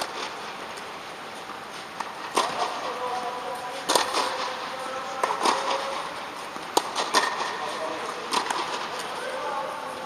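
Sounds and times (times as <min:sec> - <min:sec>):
tennis balls struck by racquets: 0:00.0 - 0:03.1, 0:03.8 - 0:09.1.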